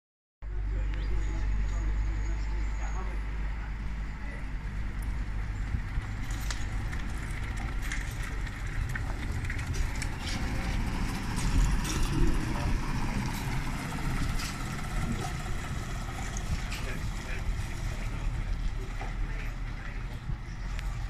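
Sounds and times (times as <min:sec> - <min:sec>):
trolleybus driving past: 0:00.5 - 0:21.0.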